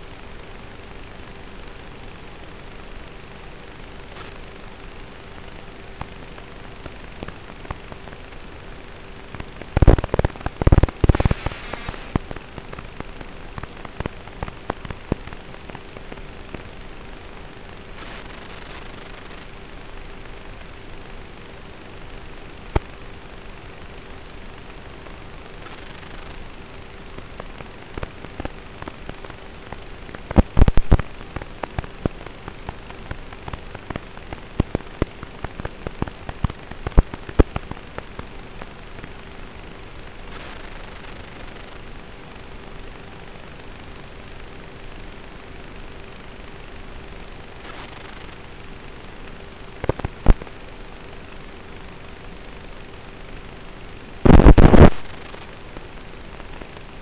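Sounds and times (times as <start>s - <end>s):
faint steady hum: 0.0s - 57.0s
static clicks and pops: 0.0s - 57.0s
steady hiss: 0.0s - 57.0s.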